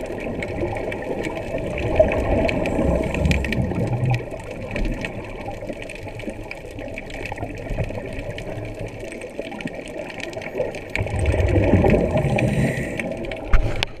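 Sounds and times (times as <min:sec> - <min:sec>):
regulator bubbling underwater: 0:00.0 - 0:14.0.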